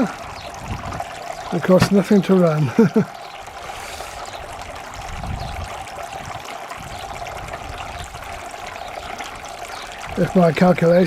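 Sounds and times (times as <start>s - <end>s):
fountain water trickling: 0.0s - 11.0s.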